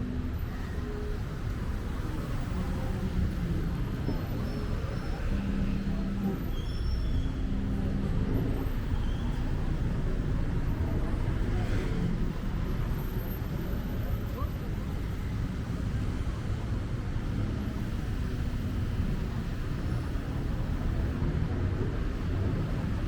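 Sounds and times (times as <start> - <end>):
rumble of passing cars: 0.0 - 23.0.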